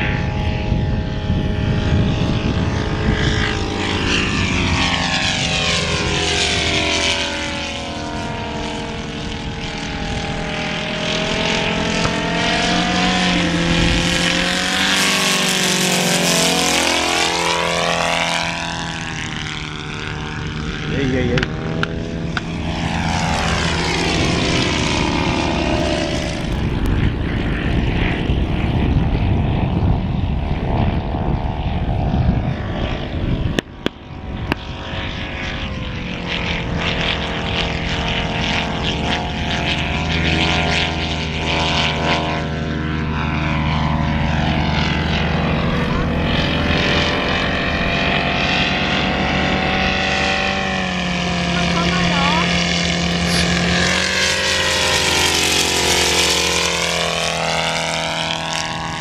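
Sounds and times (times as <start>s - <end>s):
biplane engine drone: 0.0s - 59.0s
monoplane engine droning: 0.0s - 59.0s.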